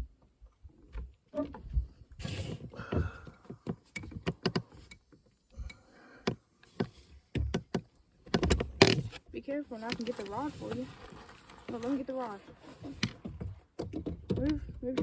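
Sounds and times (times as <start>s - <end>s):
fishing gear clicking and rattling: 2.2s - 15.0s.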